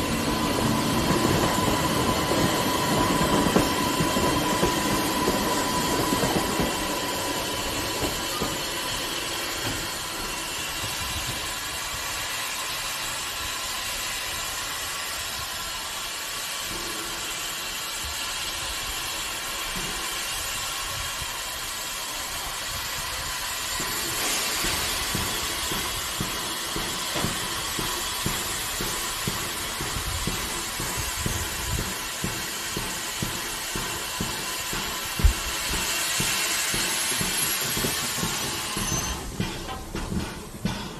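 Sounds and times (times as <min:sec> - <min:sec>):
electric train whine and rumble: 0:00.0 - 0:40.9
steam hissing from locomotive: 0:00.0 - 0:40.9.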